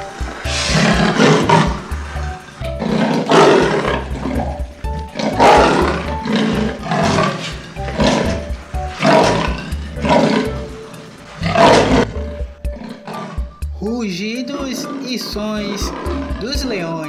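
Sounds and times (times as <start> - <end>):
lion roaring and growling: 0.0 - 13.8, 14.5 - 16.8
background music: 0.0 - 17.0.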